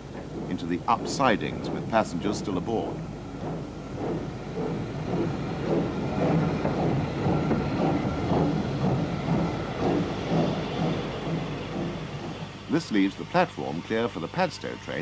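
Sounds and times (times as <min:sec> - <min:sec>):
steam locomotive chuffing: 0:00.0 - 0:15.0.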